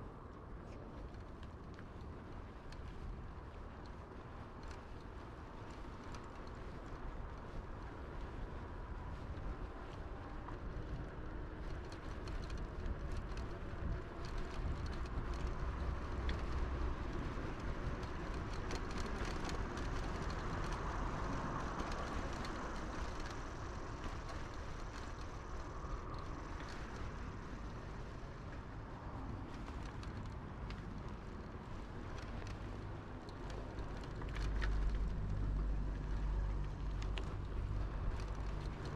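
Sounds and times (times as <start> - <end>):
bicycle rolling on pavement: 0.0 - 38.9
small clicks and rattles: 0.3 - 38.9.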